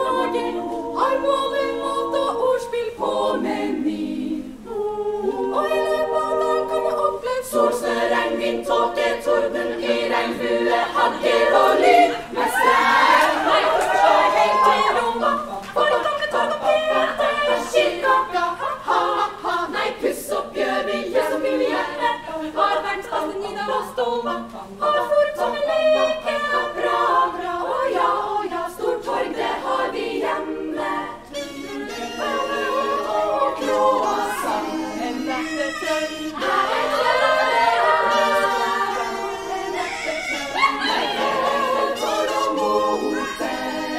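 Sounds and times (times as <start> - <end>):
women's choir singing a cappella: 0.0 - 43.9.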